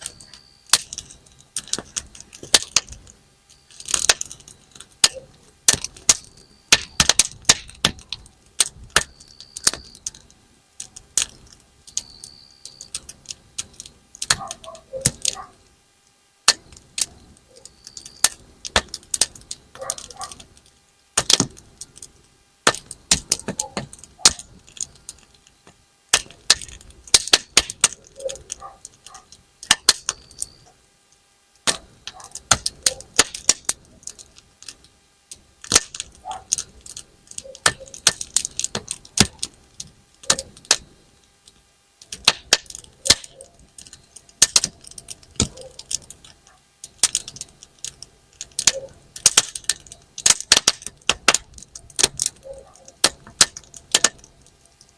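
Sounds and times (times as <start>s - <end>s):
campfire crackling: 0.0s - 54.9s
sharp pops and snaps: 0.0s - 54.9s.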